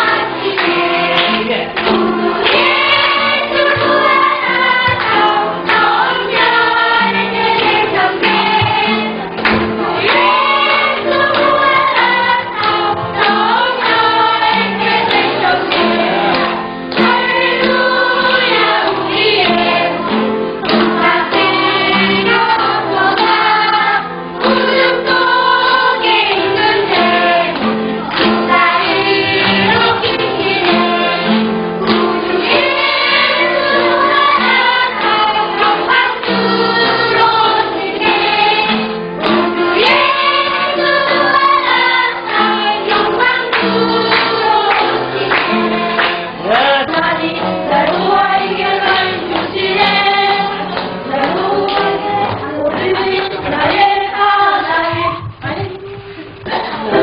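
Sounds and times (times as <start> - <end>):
choir singing a hymn: 0.0 - 55.3, 56.5 - 57.0.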